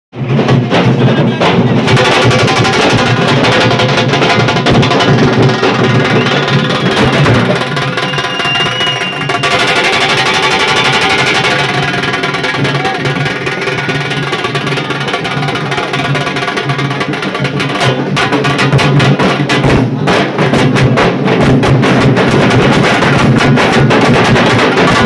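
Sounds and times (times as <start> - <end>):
large drums playing fast rhythm: 0.2 - 25.0.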